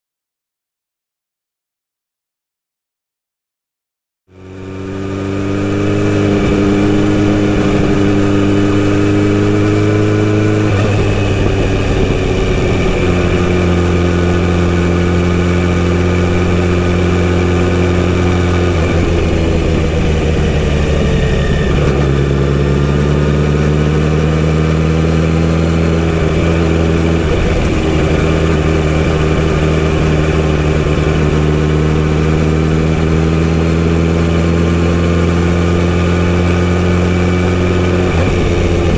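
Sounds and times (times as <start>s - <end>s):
motorcycle engine running: 4.3s - 38.9s.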